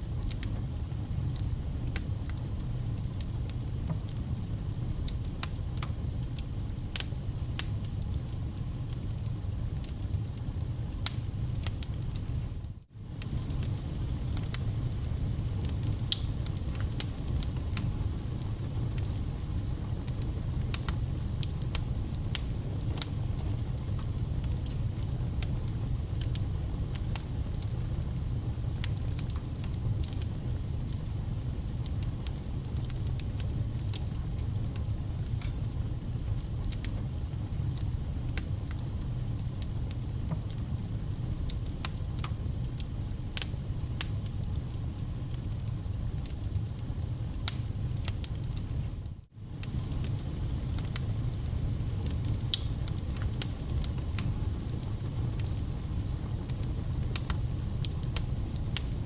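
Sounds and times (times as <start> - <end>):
fire rumbling: 0.0 - 59.0
logs crackling and popping: 0.1 - 59.0.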